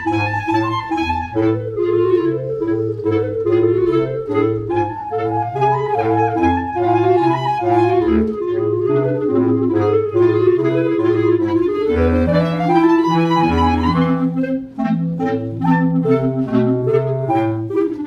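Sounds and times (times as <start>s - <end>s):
bass clarinet low notes: 0.0s - 18.0s
clarinets playing: 0.0s - 18.0s.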